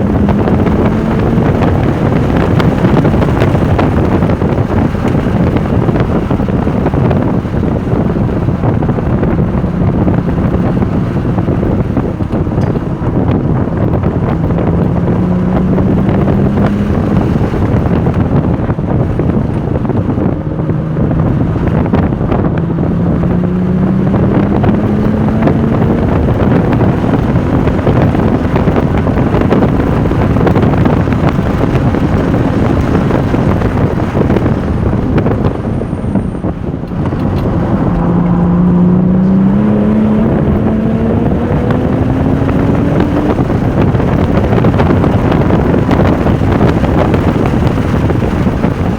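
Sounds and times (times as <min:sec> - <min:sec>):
car engine pulling hard: 0:00.0 - 0:48.9
wind and road noise: 0:00.0 - 0:48.9.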